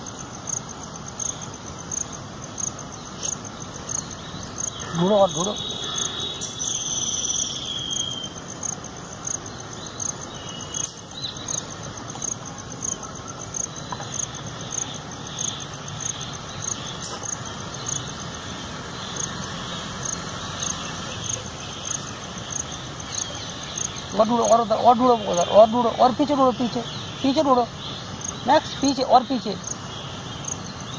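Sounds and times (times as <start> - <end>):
insects chirping: 0.0 - 30.9
steady background hiss: 0.0 - 30.9.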